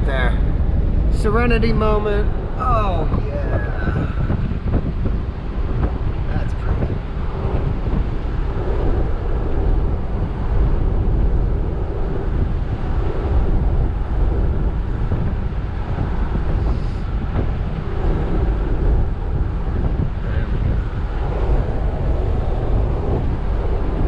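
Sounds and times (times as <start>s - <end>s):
truck road rumble: 0.0s - 24.0s
wind buffeting microphone: 0.0s - 24.0s.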